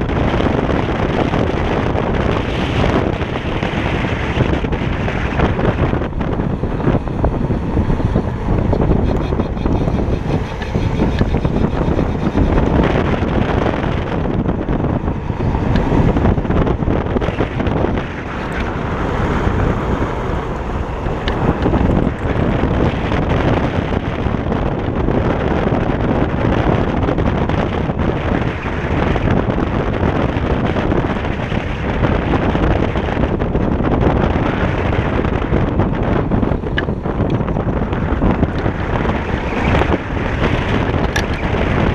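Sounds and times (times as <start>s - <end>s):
scooter tyre and road noise: 0.0s - 41.9s
wind buffeting microphone: 0.0s - 41.9s.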